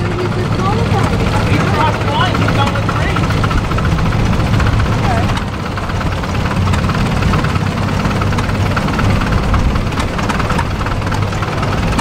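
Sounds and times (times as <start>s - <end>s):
tractor engine running slowly: 0.0s - 12.0s.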